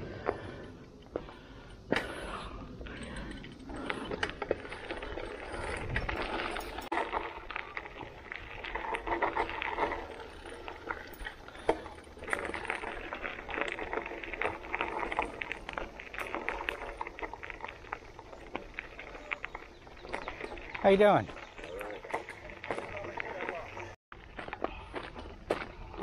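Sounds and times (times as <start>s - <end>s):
bike tyres crunching on gravel: 0.0s - 26.0s
bike clicks and rattles: 0.1s - 26.0s.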